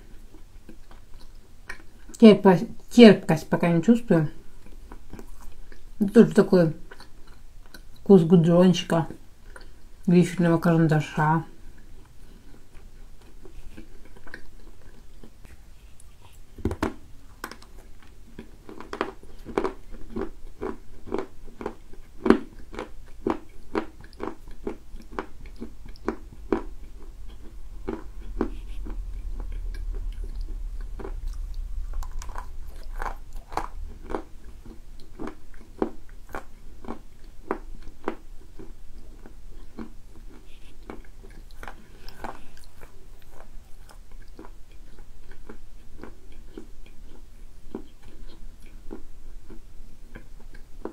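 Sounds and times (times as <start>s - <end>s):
crunchy chewing: 4.5s - 6.0s, 11.6s - 50.9s.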